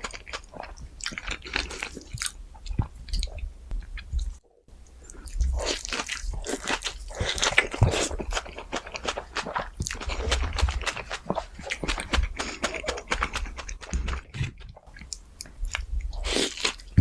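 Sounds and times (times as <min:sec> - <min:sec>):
person chewing crunchy food: 0:00.0 - 0:04.4, 0:05.0 - 0:17.0.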